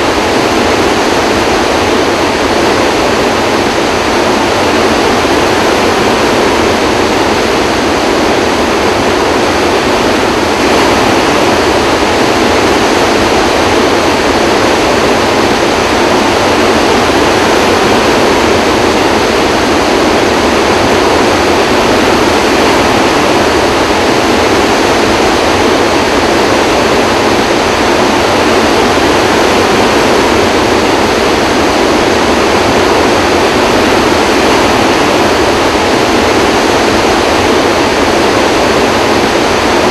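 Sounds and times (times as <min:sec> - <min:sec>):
rushing roar of churning water: 0:00.0 - 0:39.9.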